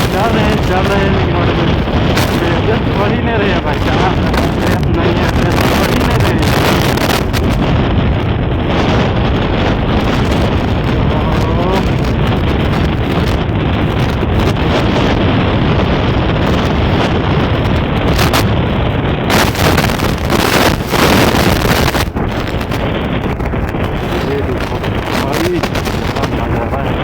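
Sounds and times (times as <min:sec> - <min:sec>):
road noise: 0:00.0 - 0:27.0
wind buffeting microphone: 0:00.0 - 0:27.0.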